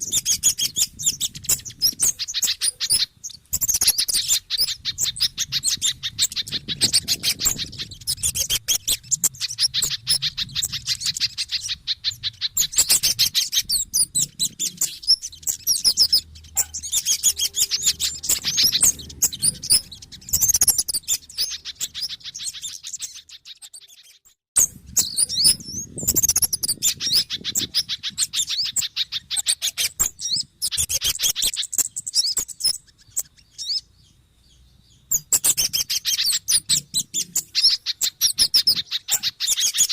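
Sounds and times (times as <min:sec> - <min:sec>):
rapid high-pitched bird chirping: 0:00.0 - 0:39.9.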